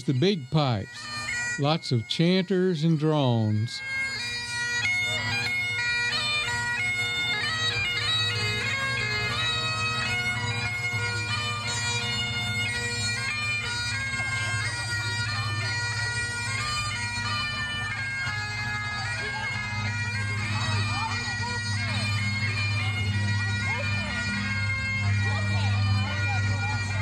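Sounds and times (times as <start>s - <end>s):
bagpipe chanter melody: 0.0s - 27.0s
bagpipe drones: 0.0s - 27.0s.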